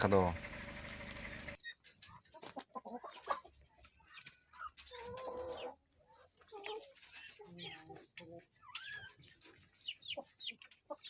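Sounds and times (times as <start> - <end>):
fowl calling and clucking: 0.7 - 11.0.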